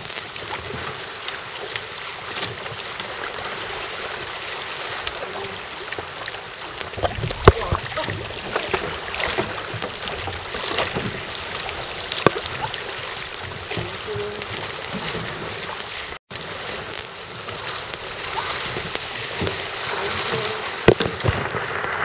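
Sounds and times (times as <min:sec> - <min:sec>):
small sharp clicks: 0:00.0 - 0:16.2, 0:20.2 - 0:22.0
paddle splashes: 0:00.0 - 0:22.0
water rushing along hull: 0:00.0 - 0:22.0
wind: 0:00.0 - 0:22.0.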